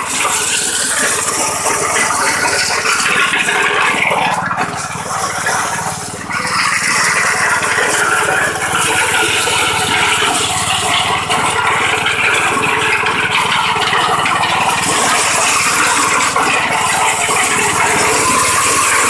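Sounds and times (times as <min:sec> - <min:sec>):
corn cobs rattling in sheller: 0:00.0 - 0:19.0
small engine drone: 0:00.0 - 0:19.0.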